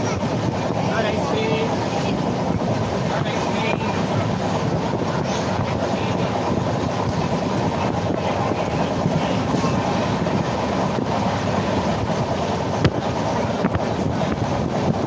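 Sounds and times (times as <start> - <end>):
train running rumble: 0.0 - 15.0
wind on microphone: 0.0 - 15.0.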